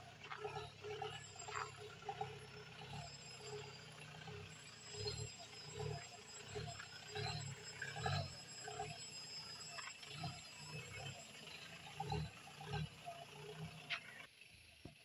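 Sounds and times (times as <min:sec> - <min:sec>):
jeep engine running under load: 0:00.0 - 0:14.3.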